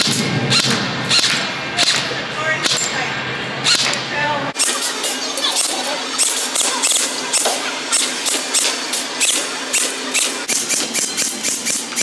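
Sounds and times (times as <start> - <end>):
toy rifle shots: 0.0 - 2.9, 3.6 - 4.0, 4.6 - 12.0.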